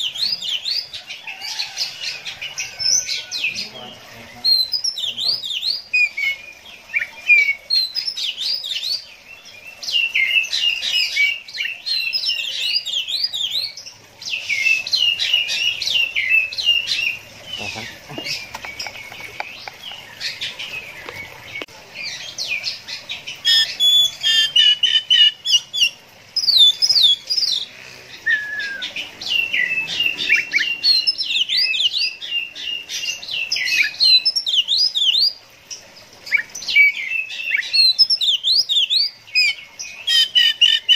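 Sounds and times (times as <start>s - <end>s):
bird singing: 0.0s - 35.4s, 36.3s - 40.9s.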